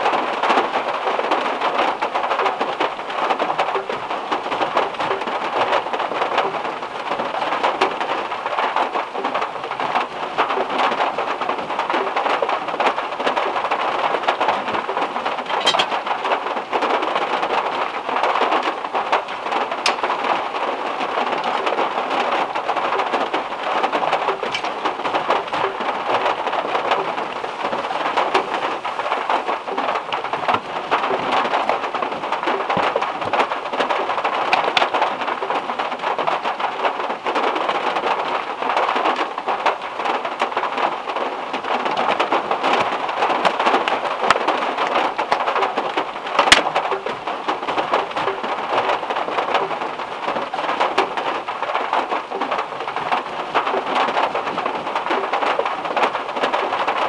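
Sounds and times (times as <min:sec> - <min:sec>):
heavy rain on a metal roof: 0:00.0 - 0:57.0.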